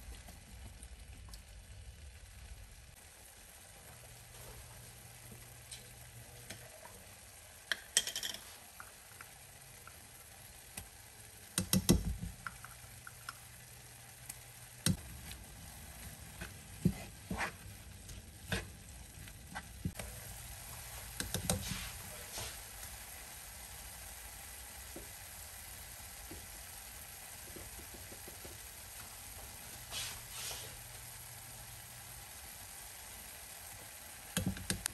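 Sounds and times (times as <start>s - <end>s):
meat and onions sizzling in pan: 0.4s - 34.9s.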